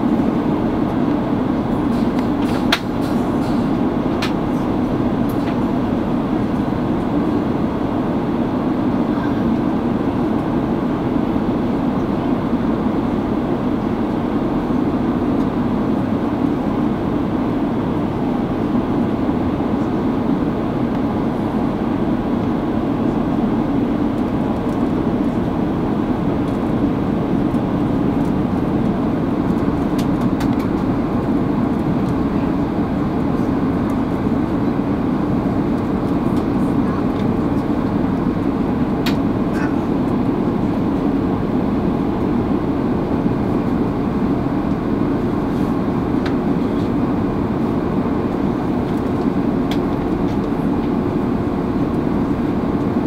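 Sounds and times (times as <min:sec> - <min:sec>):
airliner cabin engine and airflow noise: 0:00.0 - 0:53.0.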